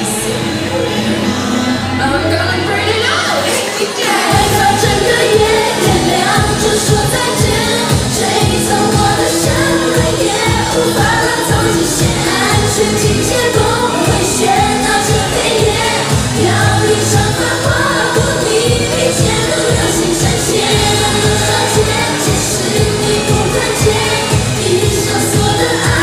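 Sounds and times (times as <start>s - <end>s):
women singing pop song: 0.0s - 26.0s
backing track with steady beat: 3.5s - 26.0s.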